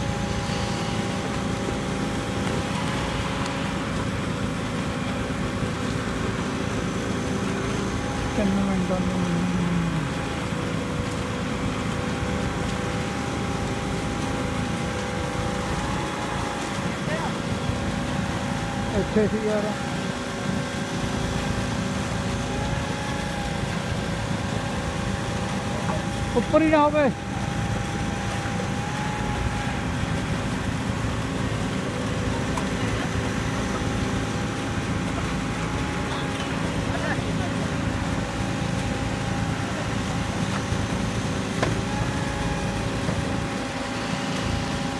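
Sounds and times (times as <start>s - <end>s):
diesel engines droning: 0.0s - 44.9s
faint steady whine: 0.0s - 44.9s.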